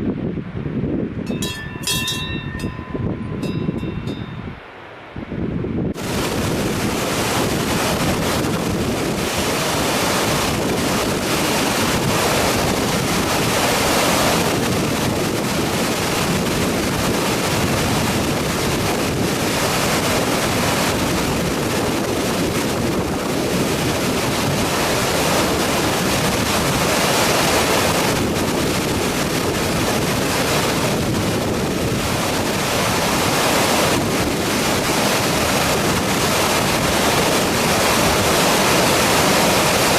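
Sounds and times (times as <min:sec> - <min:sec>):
waterfall roaring: 0:06.0 - 0:39.9.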